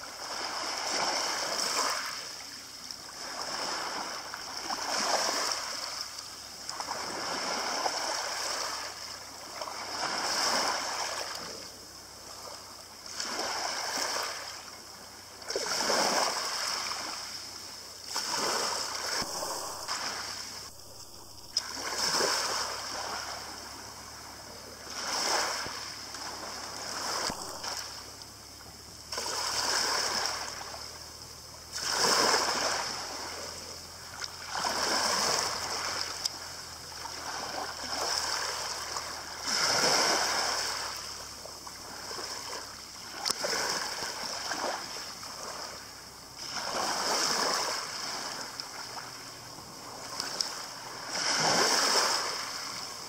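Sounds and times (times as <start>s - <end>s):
small waves lapping on shingle: 0.0s - 53.0s.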